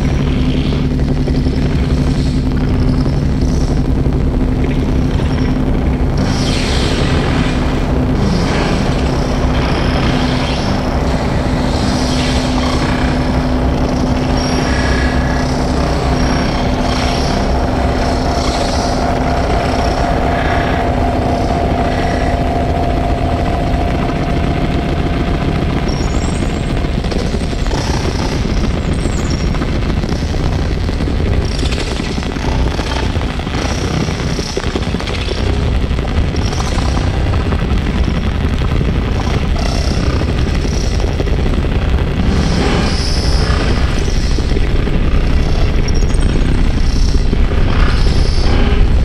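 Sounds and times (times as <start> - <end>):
rumbling noise drone music: 0.0 - 49.0.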